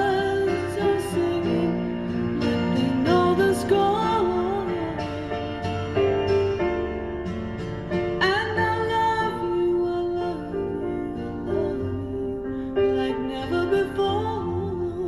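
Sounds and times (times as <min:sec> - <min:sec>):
woman singing: 0:00.0 - 0:05.5, 0:08.2 - 0:15.0
piano ballad: 0:00.0 - 0:15.0.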